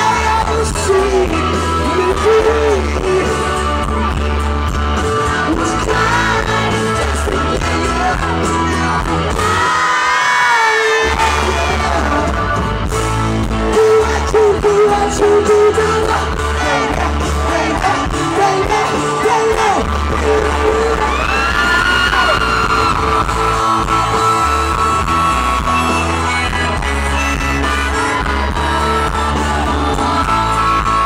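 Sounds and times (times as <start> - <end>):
lead singer singing: 0.0 - 31.0
live rock band: 0.0 - 31.0.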